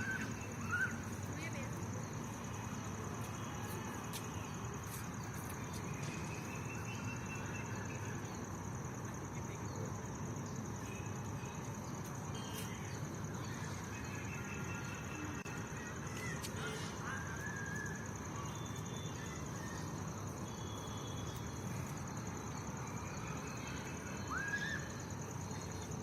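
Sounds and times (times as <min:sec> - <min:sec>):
constant background hum: 0:00.0 - 0:26.0.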